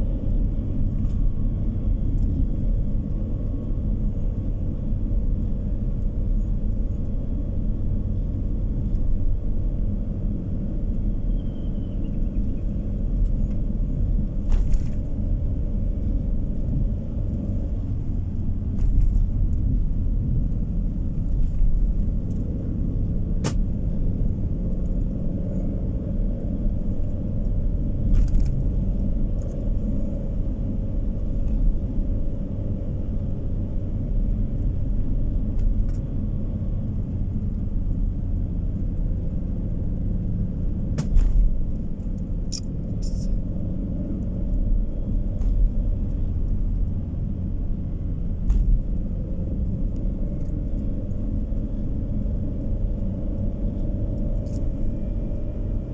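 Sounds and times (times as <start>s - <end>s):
road and engine rumble inside car: 0.0s - 55.9s.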